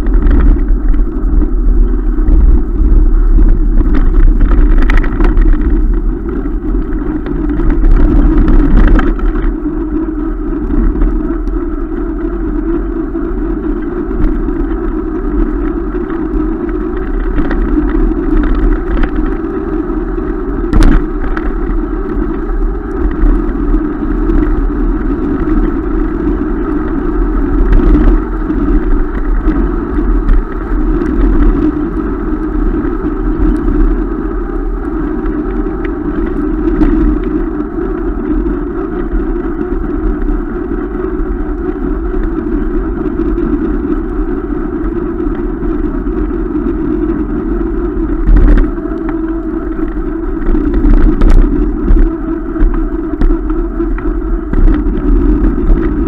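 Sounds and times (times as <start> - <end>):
bike tyre rumble on asphalt: 0.0 - 56.0
wind buffeting microphone: 0.0 - 56.0.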